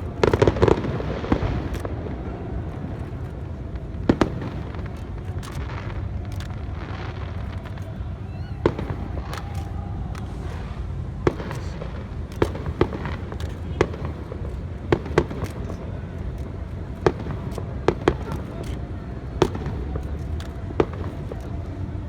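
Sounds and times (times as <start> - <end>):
firework shells bursting: 0.0 - 22.0
steady low rumble: 0.0 - 22.0.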